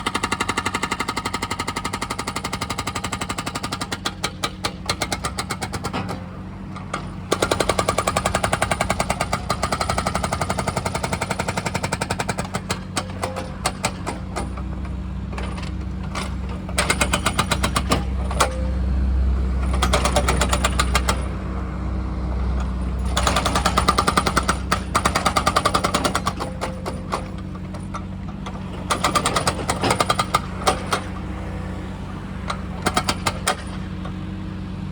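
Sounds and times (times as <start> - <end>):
hydraulic breaker hammering: 0.0 - 18.8, 19.6 - 21.4, 23.0 - 31.4, 32.6 - 34.0
excavator engine hum: 0.0 - 34.9.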